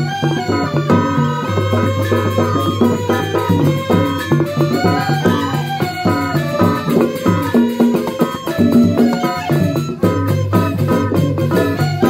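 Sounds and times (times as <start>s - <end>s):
bamboo flutes: 0.0s - 12.0s
hand drums: 0.0s - 12.0s.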